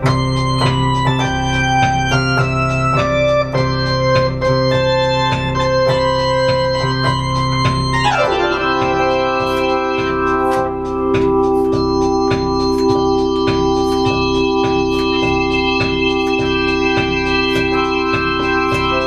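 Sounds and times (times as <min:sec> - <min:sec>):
organ chords: 0:00.0 - 0:19.0
steady drum beat: 0:00.0 - 0:19.0.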